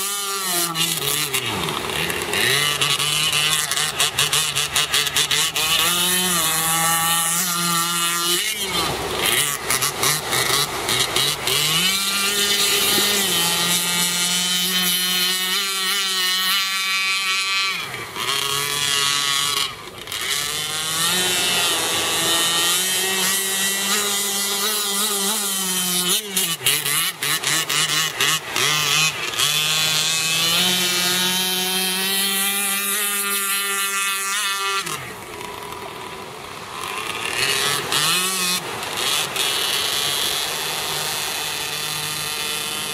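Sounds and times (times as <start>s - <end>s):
two-stroke boat engine: 0.0s - 42.9s.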